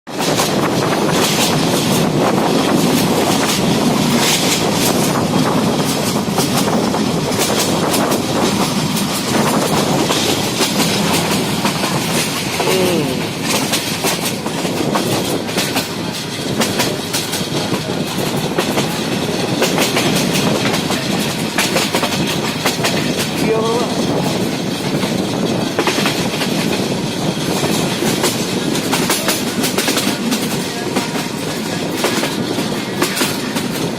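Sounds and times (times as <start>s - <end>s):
train wheels clattering on rails: 0.1s - 33.9s.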